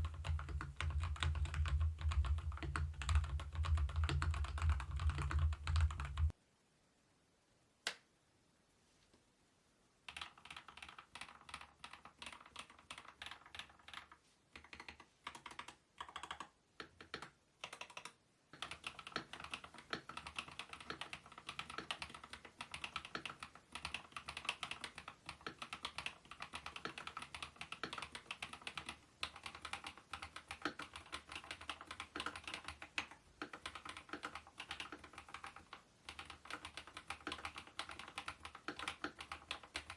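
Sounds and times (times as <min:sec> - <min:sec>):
mechanical keyboard typing: 0:00.0 - 0:06.4, 0:10.1 - 0:39.9.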